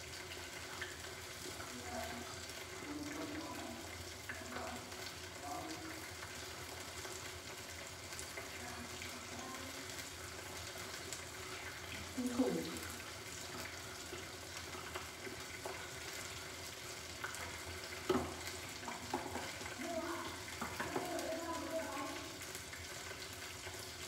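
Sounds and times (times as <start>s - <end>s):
deep-frying sizzle with crackling: 0.0s - 24.0s.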